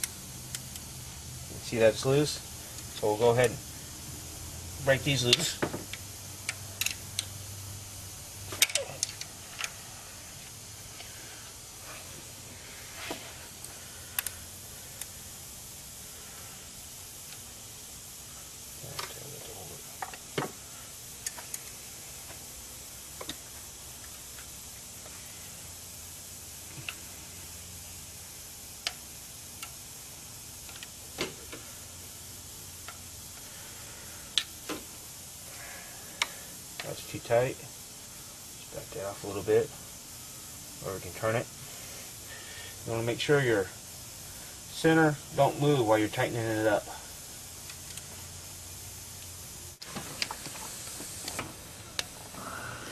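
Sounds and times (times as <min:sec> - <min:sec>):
faint steady hum: 0:00.0 - 0:52.9
steady hiss: 0:00.0 - 0:52.9.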